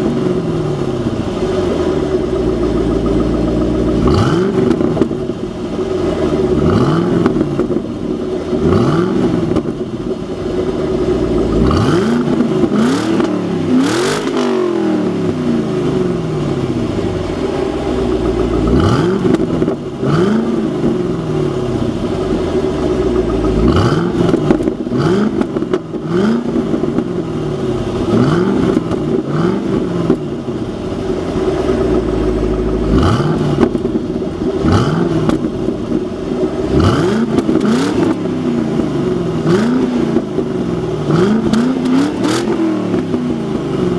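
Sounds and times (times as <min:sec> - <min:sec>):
car engine idling: 0:00.0 - 0:43.9
car engine revving: 0:00.0 - 0:43.9.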